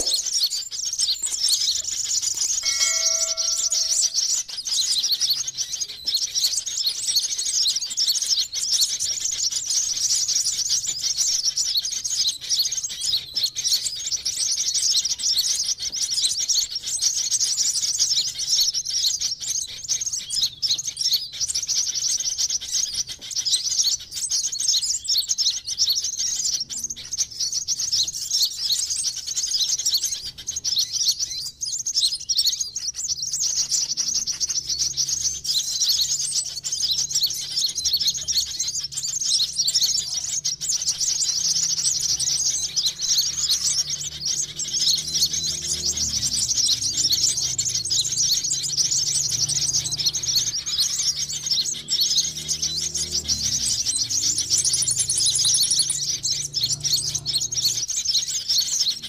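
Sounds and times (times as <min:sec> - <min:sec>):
birds twittering and chirping: 0:00.0 - 0:59.0.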